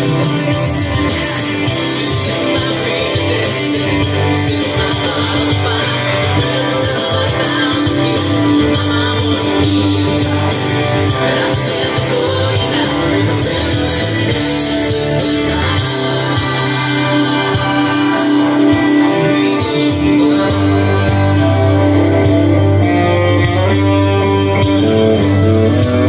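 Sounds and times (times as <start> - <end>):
electric guitar playing: 0.0 - 26.0
rock band backing track: 0.0 - 26.0.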